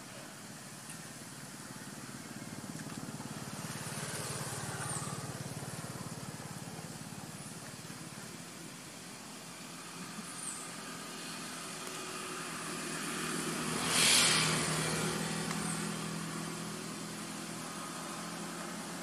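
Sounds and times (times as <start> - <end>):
vehicle engine passing by: 1.6 - 8.2, 9.3 - 19.0.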